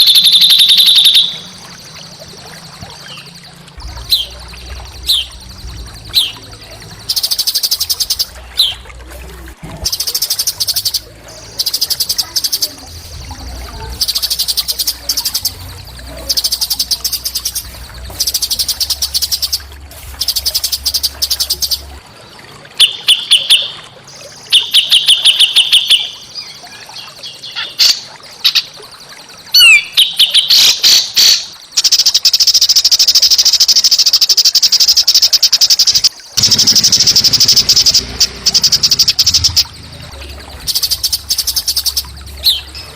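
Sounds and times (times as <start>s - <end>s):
songbird rattling trills: 0.0s - 9.1s, 9.9s - 22.0s, 29.6s - 42.9s.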